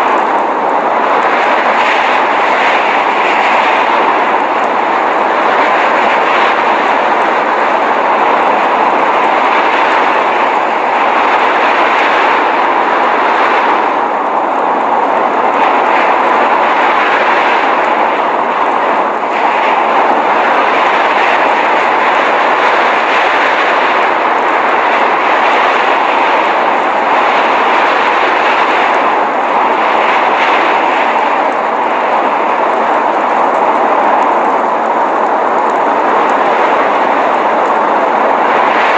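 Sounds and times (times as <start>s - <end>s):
wind and blowing snow: 0.0s - 38.9s.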